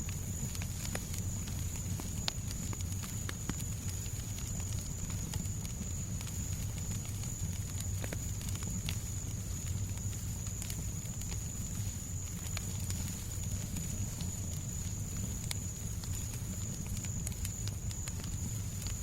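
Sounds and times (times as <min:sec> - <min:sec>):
fireplace crackling: 0:00.0 - 0:19.0
soft white noise hiss: 0:00.0 - 0:19.0.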